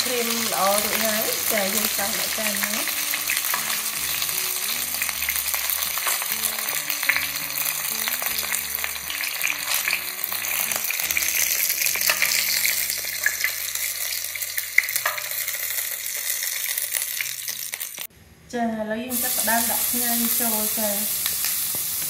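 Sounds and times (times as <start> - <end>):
fish sizzling in hot oil: 0.0 - 18.1, 19.1 - 22.0.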